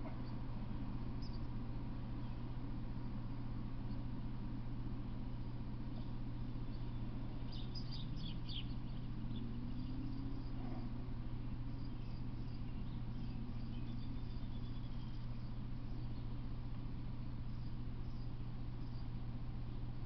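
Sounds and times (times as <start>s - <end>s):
small bird chirping: 0.0s - 2.6s, 5.0s - 20.0s
steady low hum: 0.0s - 20.0s.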